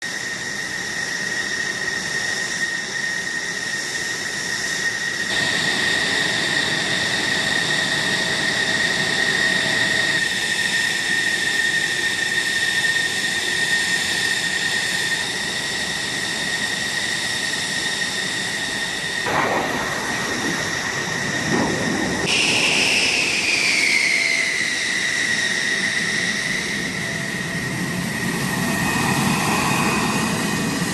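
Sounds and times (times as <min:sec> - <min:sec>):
jet engines high whine: 0:00.0 - 0:30.9.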